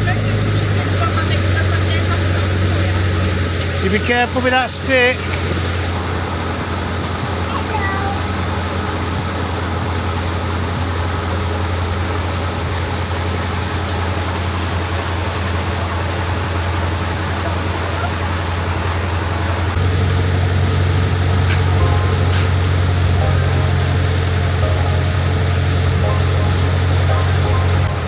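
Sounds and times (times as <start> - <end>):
engine humming: 0.0 - 28.0
rushing water: 0.0 - 28.0.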